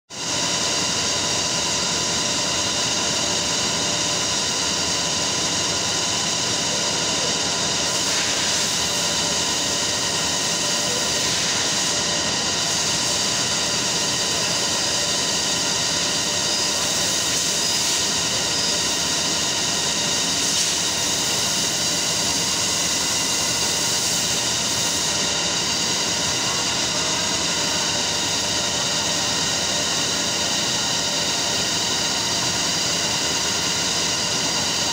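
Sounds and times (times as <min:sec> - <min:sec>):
textile machinery droning: 0:00.1 - 0:34.9
machinery whining tones: 0:00.2 - 0:34.9.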